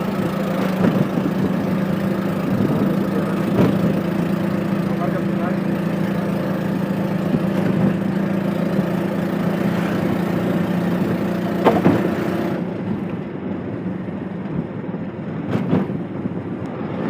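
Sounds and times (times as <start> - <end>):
auto-rickshaw engine droning: 0.0 - 17.0.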